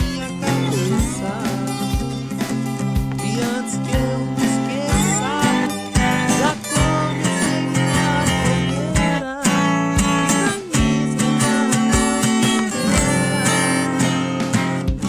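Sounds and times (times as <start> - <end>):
song with strummed acoustic guitar: 0.0 - 15.0.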